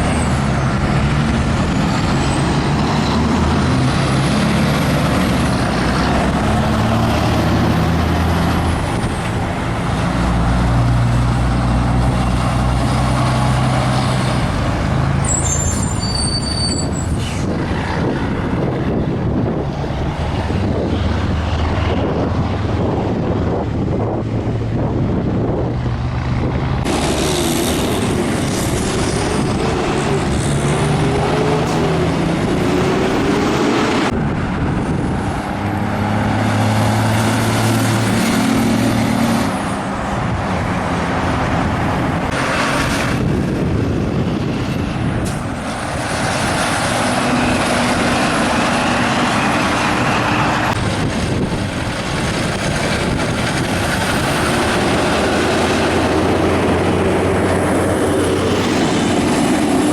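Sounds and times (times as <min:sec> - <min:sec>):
trucks passing on highway: 0:00.0 - 0:59.9
tyre and road noise: 0:00.0 - 0:59.9.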